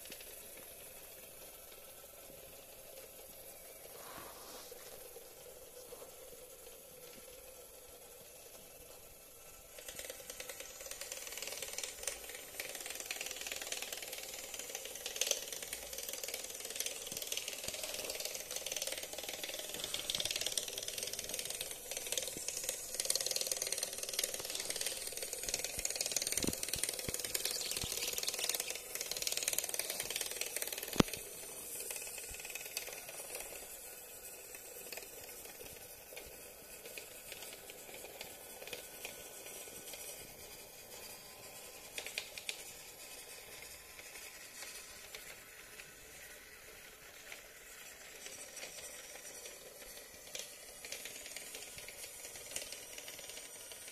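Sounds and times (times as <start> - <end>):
toy train gears whirring: 0.0 - 53.9.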